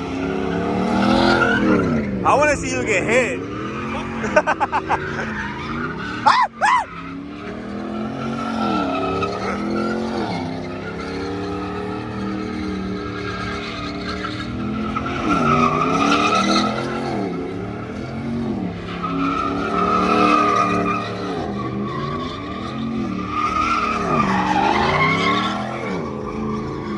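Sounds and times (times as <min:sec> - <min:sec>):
tires squealing: 0:00.0 - 0:26.9.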